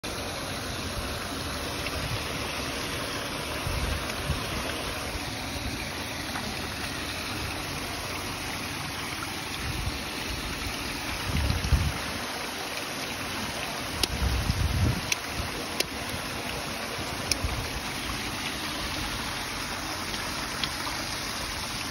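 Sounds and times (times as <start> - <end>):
fountain water trickling over rock: 0.0 - 21.9.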